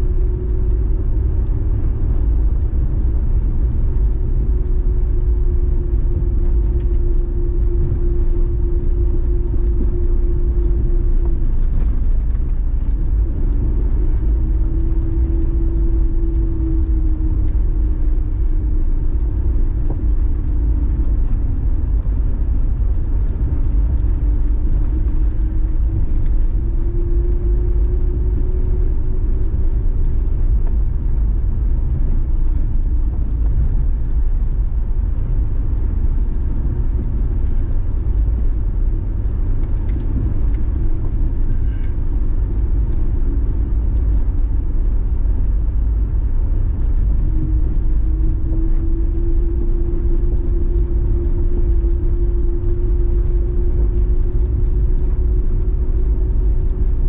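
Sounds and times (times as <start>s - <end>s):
car engine and road noise: 0.0s - 57.0s
humming tone: 0.0s - 57.0s.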